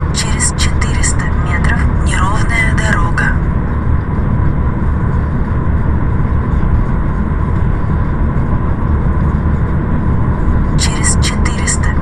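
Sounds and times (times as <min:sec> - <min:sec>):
faint steady whine: 0:00.0 - 0:12.0
road vehicles rumbling: 0:00.0 - 0:12.0.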